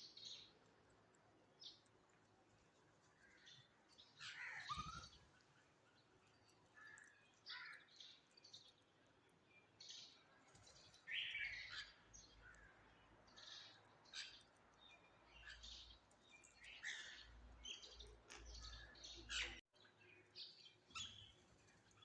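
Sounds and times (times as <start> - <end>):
birds calling and chirping: 3.1 - 22.0.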